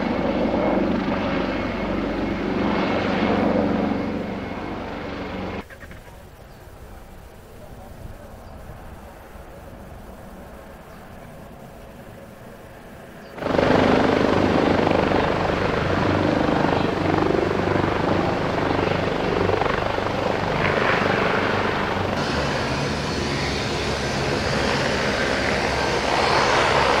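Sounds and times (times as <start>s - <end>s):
helicopter rotors and turbines: 0.0s - 27.0s.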